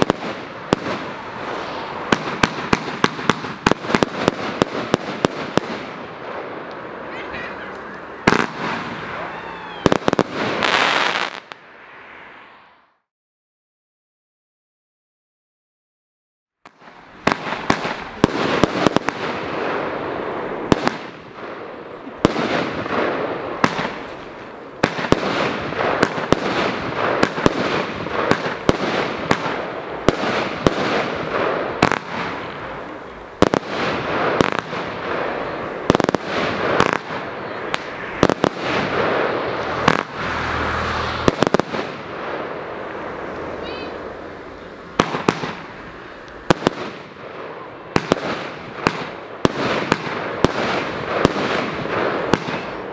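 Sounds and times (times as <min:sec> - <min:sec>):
fireworks reports: 0:00.0 - 0:12.8, 0:16.6 - 0:52.9
rushing noise of burning fireworks: 0:00.0 - 0:13.1, 0:16.6 - 0:52.9.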